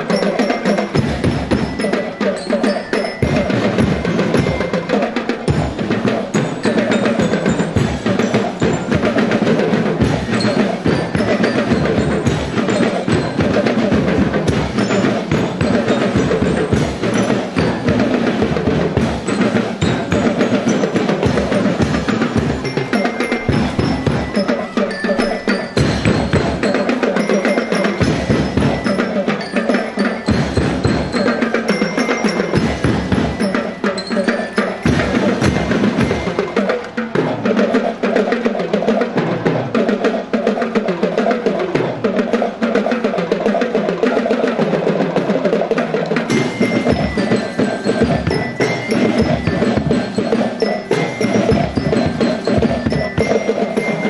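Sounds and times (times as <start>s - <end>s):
bell-like ringing tones: 0.0s - 37.0s, 46.2s - 54.0s
marching band drumline playing: 0.0s - 54.0s
snare drums: 0.0s - 54.0s.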